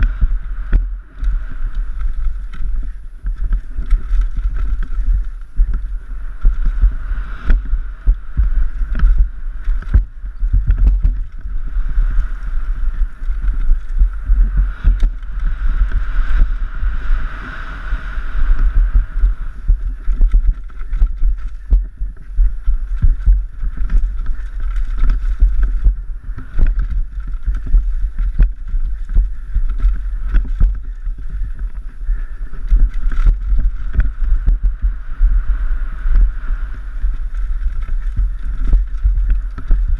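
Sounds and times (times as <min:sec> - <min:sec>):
bike rattling over rough ground: 0:00.0 - 0:39.9
wind rumble on microphone: 0:00.0 - 0:39.9.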